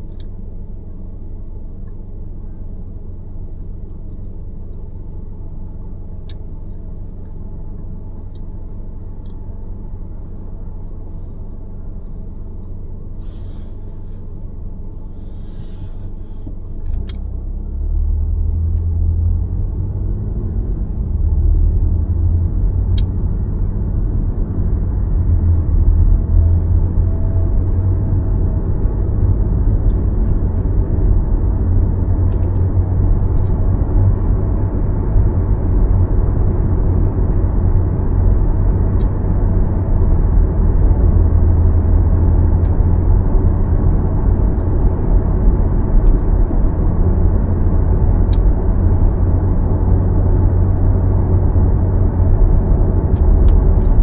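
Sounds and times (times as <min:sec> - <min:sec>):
car road and tyre noise: 0:00.0 - 0:54.0.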